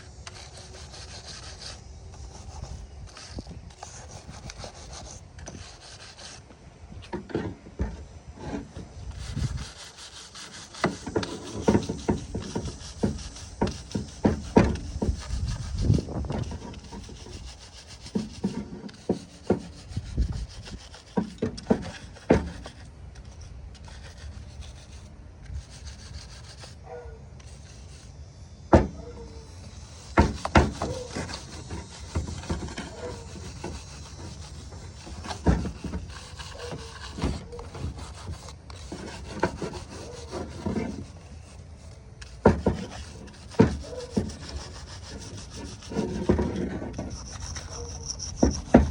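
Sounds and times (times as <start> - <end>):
scraping and scrubbing: 0.0 - 6.4, 7.0 - 48.9.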